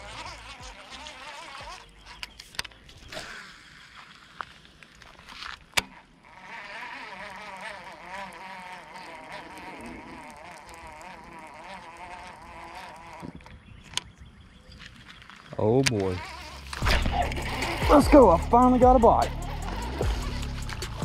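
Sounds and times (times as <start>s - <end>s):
fishing reel whirring: 0.0s - 5.2s, 5.8s - 13.2s, 16.2s - 21.0s.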